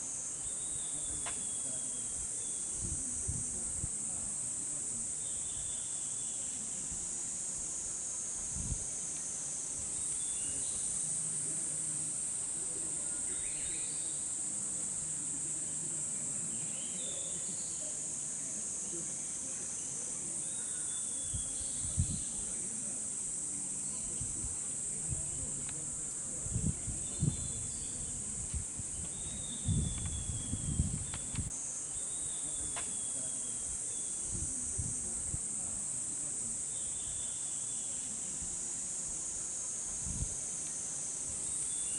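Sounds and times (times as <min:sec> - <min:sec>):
cicadas shrilling: 0:00.0 - 0:41.9.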